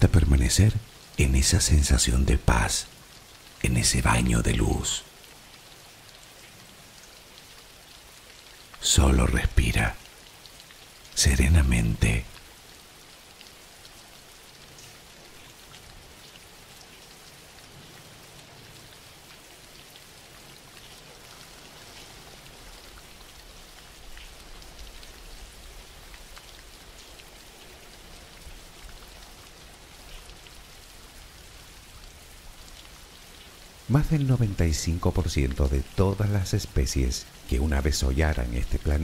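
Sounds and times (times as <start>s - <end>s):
raindrop ticks: 0.0s - 39.0s
steady rain hiss: 0.0s - 39.0s.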